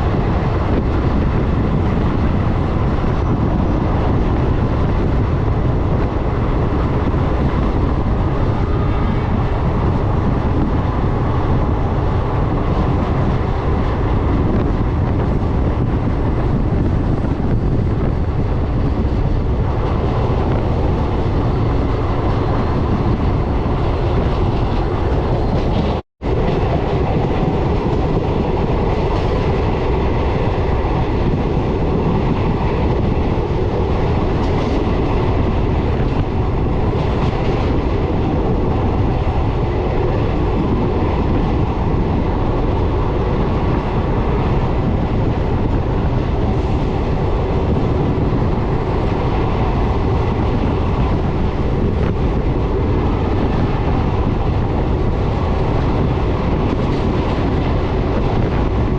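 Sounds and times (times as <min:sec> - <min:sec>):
clickety-clack of rails: 0:00.0 - 0:58.9
train wheels on rails: 0:00.0 - 0:58.9.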